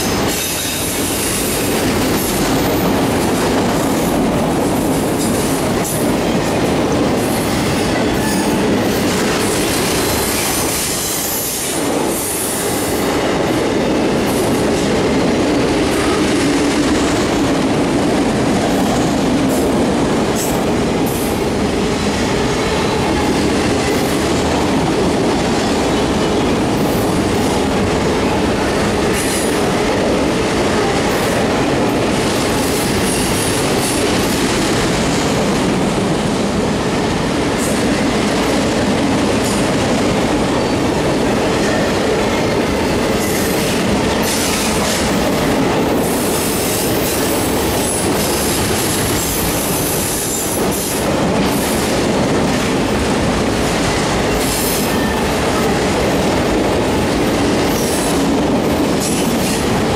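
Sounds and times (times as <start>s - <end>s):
steel wheels rolling on rail: 0.0s - 59.9s.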